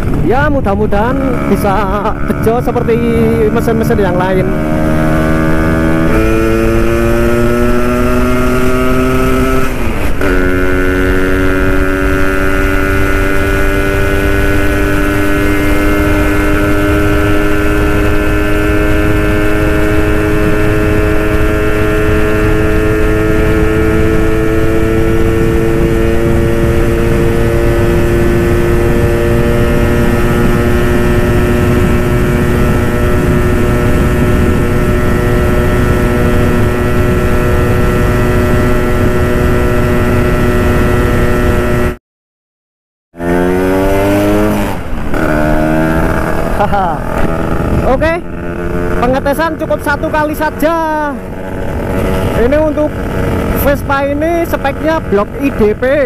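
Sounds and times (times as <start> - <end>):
scooter engine at full throttle: 0.0 - 42.0, 43.1 - 56.0.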